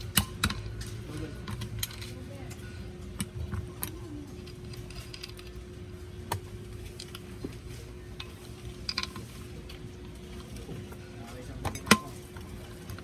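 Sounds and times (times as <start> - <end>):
metal tools clicking and clinking: 0.0 - 5.6, 8.2 - 13.0.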